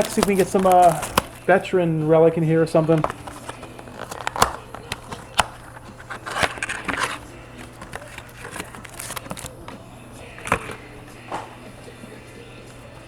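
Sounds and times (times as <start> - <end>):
cards shuffling: 0.0 - 1.7, 2.6 - 13.0
wrapper and cards crinkling: 0.0 - 1.8, 2.5 - 11.2.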